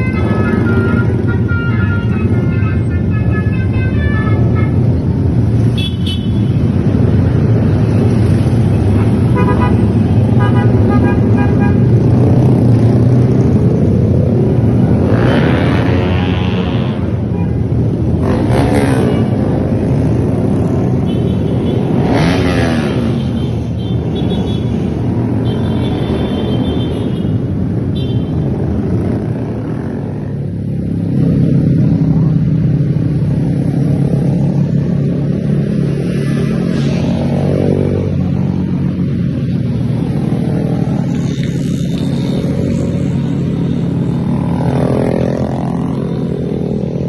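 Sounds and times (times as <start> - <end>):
motorcycle engine idling and revving: 0.0 - 47.0.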